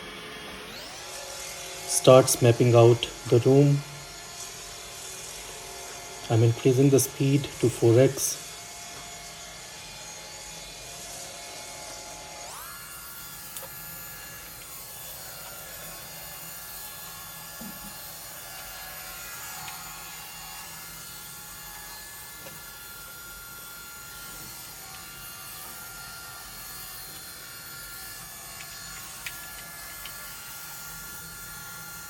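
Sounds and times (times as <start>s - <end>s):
robot vacuum whine: 0.0s - 6.6s, 7.8s - 32.0s.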